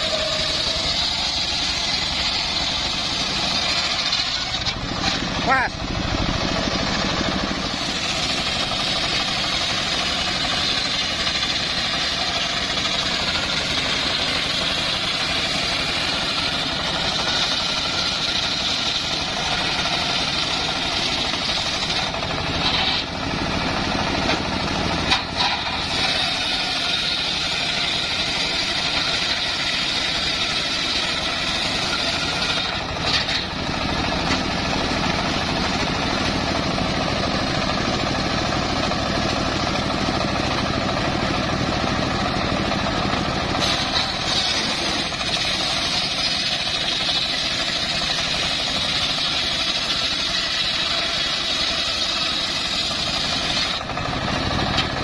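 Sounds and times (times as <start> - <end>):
circular saw ripping log: 0.0 - 5.6, 6.9 - 55.0.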